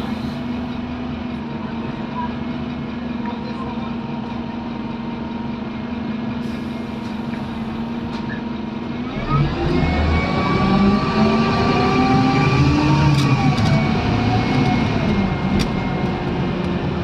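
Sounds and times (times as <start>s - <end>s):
bus engine idling and revving: 0.0s - 17.0s.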